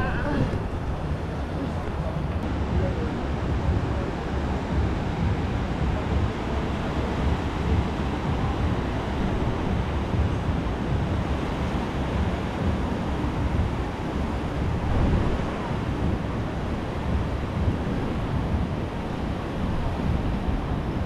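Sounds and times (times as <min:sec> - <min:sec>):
ocean surf washing in: 0:00.0 - 0:21.0
wind noise on microphone: 0:00.0 - 0:21.0.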